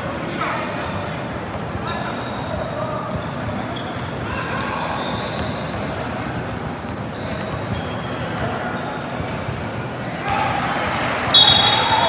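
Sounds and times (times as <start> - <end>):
sneakers squeaking on wood floor: 0.8 - 10.5, 11.3 - 12.0.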